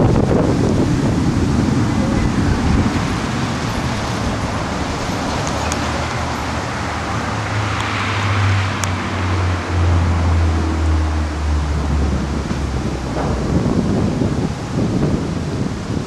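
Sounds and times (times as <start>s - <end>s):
low steady drone: 0.0s - 16.0s
wind and rain on microphone: 0.0s - 16.0s.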